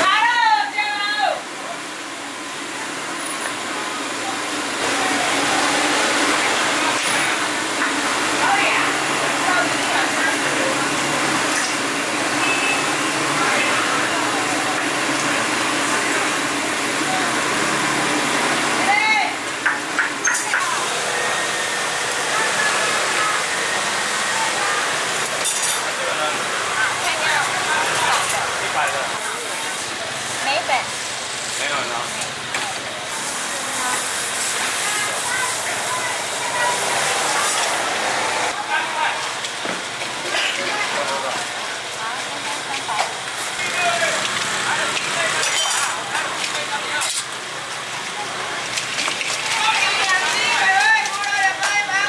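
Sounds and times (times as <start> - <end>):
hot oil sizzling: 0.0 - 52.0.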